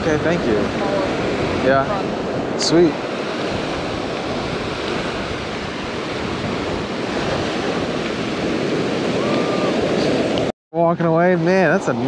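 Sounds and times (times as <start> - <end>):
wind buffeting microphone: 0.0 - 10.5
ocean surf on beach: 0.0 - 12.0.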